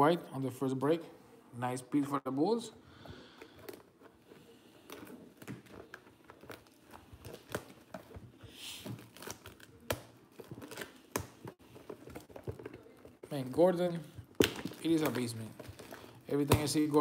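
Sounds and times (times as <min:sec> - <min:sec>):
plastic wrap crinkling and tearing: 0:03.4 - 0:17.0.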